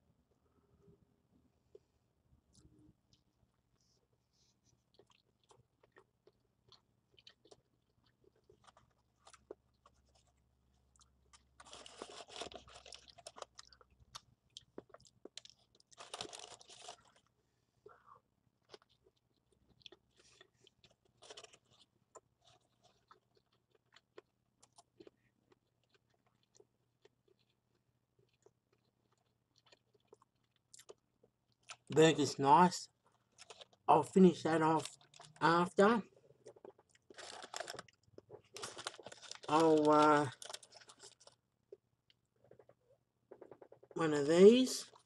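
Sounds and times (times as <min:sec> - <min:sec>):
person chewing: 0:01.7 - 0:32.0, 0:32.9 - 0:35.5, 0:36.2 - 0:44.0
food crunching: 0:04.6 - 0:32.0, 0:32.8 - 0:44.0.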